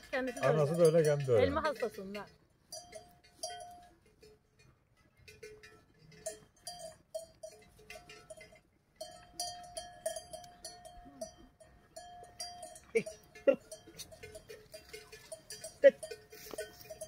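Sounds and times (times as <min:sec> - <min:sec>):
cow bell clanking: 0:00.0 - 0:17.0.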